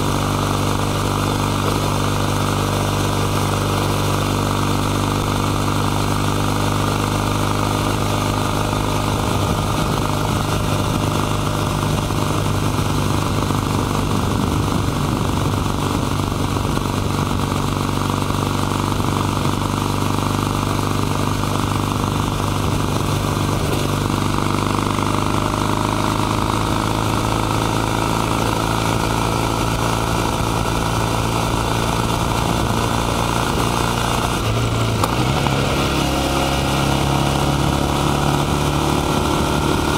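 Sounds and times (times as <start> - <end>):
motorcycle engine cruising: 0.0 - 39.9
wind and tyre noise: 0.0 - 39.9.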